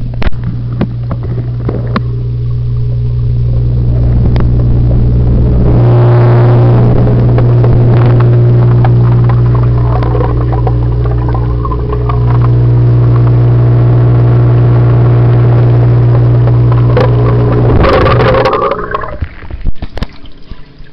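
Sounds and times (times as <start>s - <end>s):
water splashing and gurgling: 0.0s - 13.7s, 16.1s - 20.9s
aquarium pump humming: 0.0s - 20.9s.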